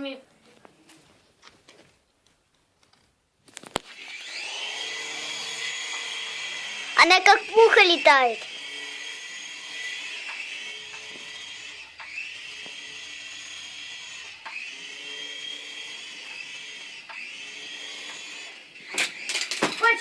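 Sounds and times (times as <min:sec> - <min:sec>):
toy helicopter whining: 0:03.7 - 0:20.0.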